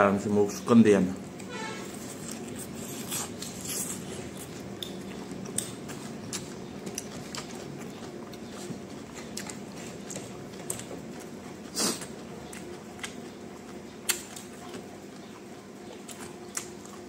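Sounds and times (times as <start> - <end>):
chewing with wet mouth sounds: 1.2 - 17.0.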